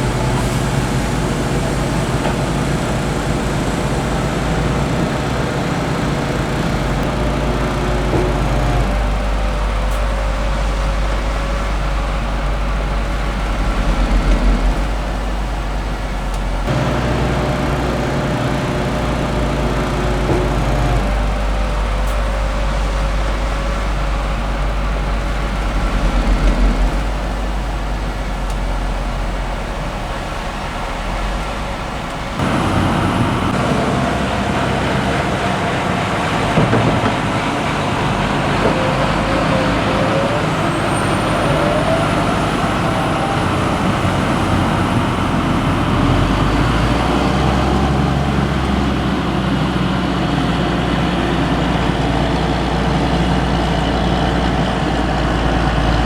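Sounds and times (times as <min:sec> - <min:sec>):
diesel engines of heavy machinery: 0:00.0 - 0:56.0.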